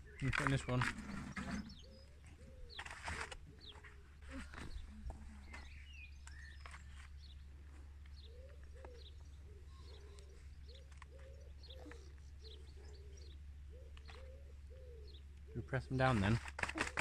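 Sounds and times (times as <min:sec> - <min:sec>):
low cooing bird calls: 0:00.0 - 0:17.0
small birds chirping: 0:00.0 - 0:17.0.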